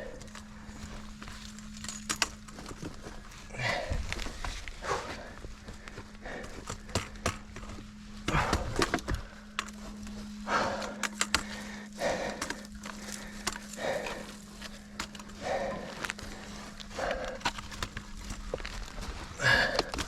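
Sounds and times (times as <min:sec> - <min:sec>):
footsteps brushing vegetation: 0:00.0 - 0:19.7
twigs snapping: 0:00.0 - 0:20.0.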